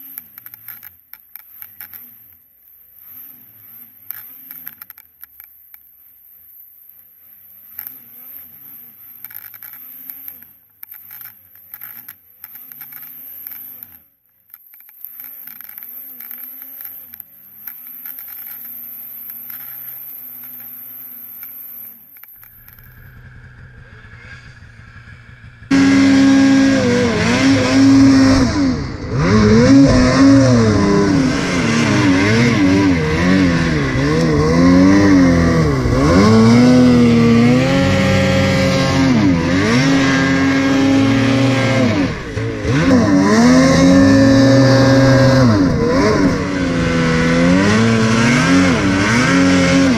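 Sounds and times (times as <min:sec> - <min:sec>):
snowmobile engine revving: 0:00.0 - 0:14.2, 0:15.1 - 0:49.9.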